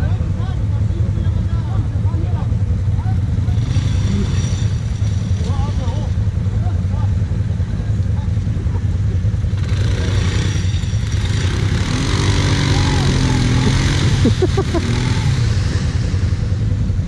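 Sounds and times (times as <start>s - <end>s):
engine idling: 0.0s - 17.0s
quad engine revving: 0.0s - 17.0s.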